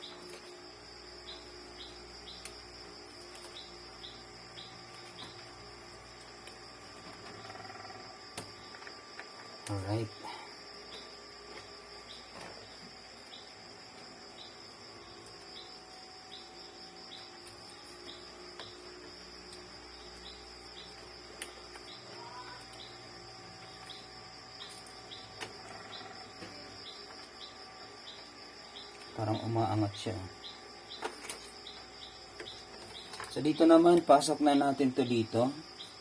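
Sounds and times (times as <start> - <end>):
crickets chirping: 0.0 - 36.0
high insect drone: 0.0 - 36.0.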